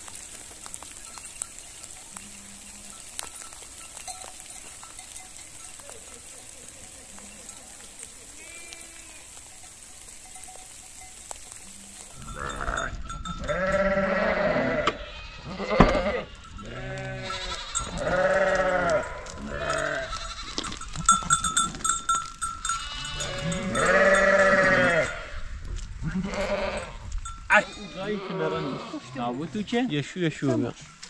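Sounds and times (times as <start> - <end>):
livestock bell clinking: 0.8 - 25.4, 26.6 - 31.0
sheep and goats bleating: 1.0 - 31.0.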